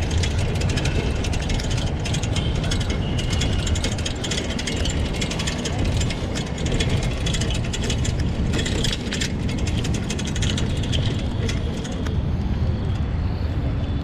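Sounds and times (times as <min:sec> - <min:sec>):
tyres rumbling: 0:00.0 - 0:12.6
bicycle rattling and clicking: 0:00.0 - 0:13.1.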